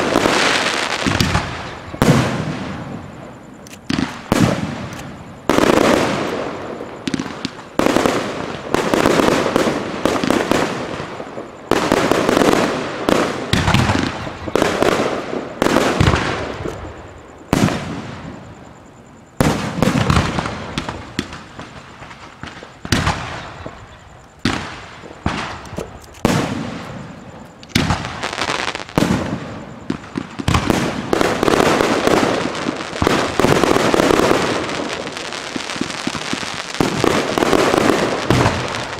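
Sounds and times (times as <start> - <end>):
fireworks bursting with sharp bangs: 0.0 - 38.9.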